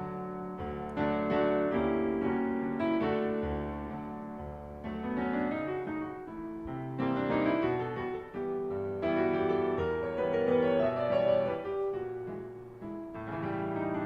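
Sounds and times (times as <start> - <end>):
piano chords and melody: 0.0 - 14.0.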